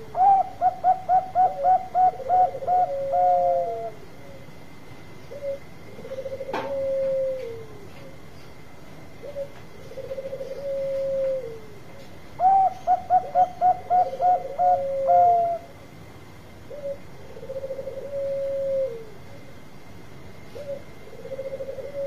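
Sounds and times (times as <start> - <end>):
dove cooing song: 0.0 - 19.6, 20.4 - 22.0.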